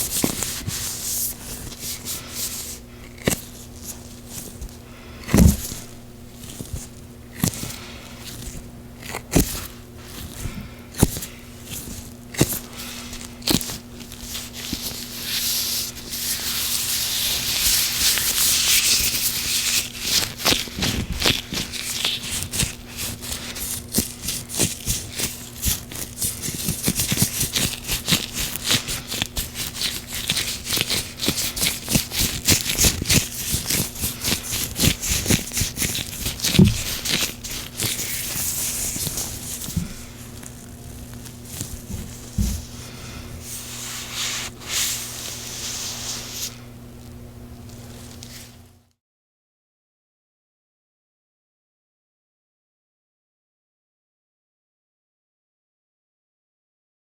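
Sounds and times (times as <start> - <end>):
oily gloved hands rubbing: 0.0 - 46.8.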